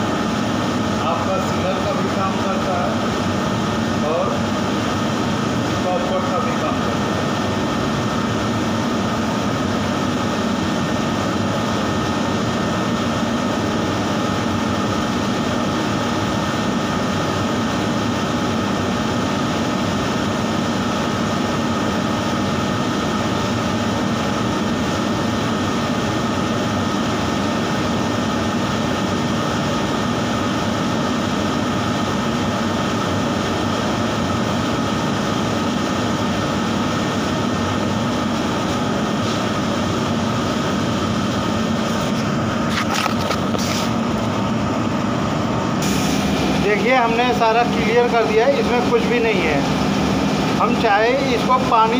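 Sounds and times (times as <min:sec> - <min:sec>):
exhaust fan droning: 0:00.0 - 0:51.9.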